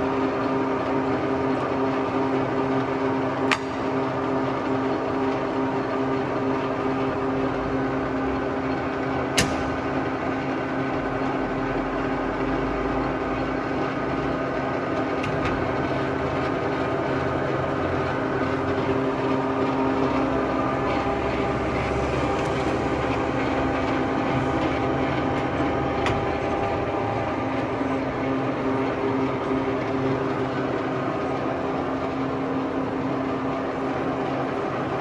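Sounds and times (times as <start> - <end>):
lathe humming: 6.8 - 35.0.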